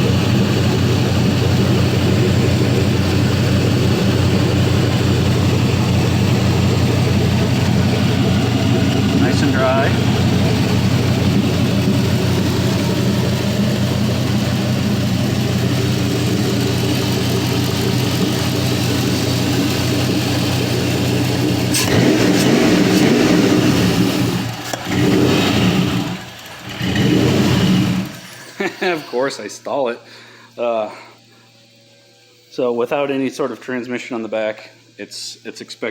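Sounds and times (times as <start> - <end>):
engine running on test stand: 0.0 - 35.9.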